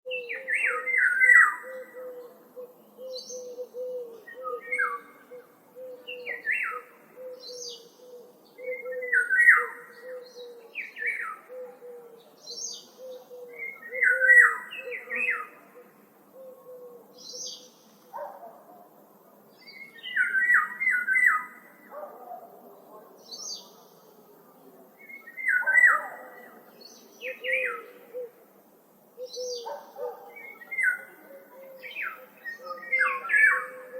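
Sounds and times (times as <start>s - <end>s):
birds singing and chirping: 0.1s - 28.4s, 29.1s - 33.9s.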